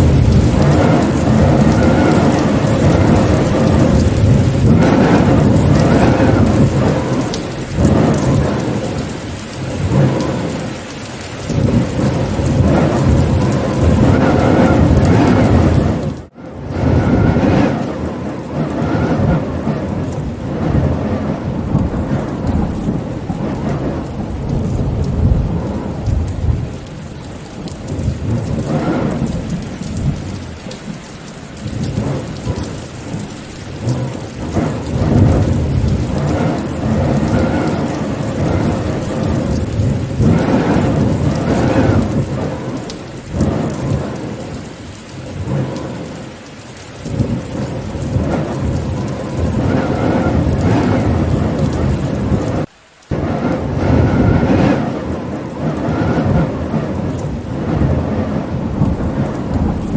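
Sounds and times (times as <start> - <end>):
deep rolling thunder: 0.0 - 59.9
steady rain falling: 0.0 - 59.9.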